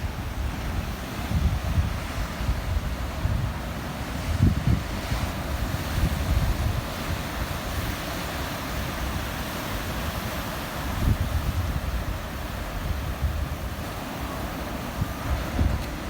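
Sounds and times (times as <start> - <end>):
ocean surf hiss: 0.0 - 16.0
wind buffeting microphone: 0.0 - 16.0.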